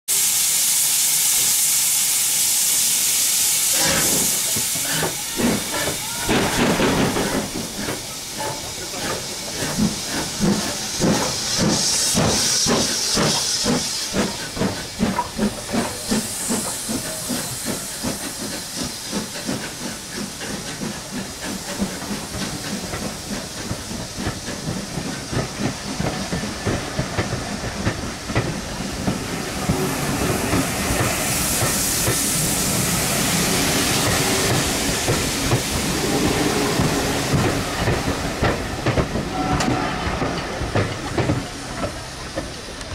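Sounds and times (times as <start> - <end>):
steam hiss: 0.1 - 42.9
steam locomotive exhaust beats: 0.1 - 42.9.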